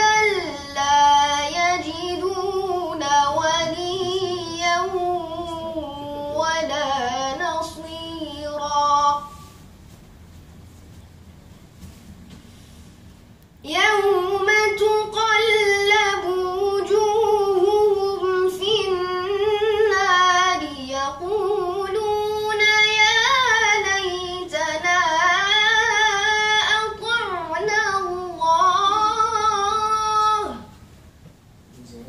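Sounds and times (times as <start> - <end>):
boy chanting melodic recitation: 0.0 - 9.4, 13.6 - 30.7.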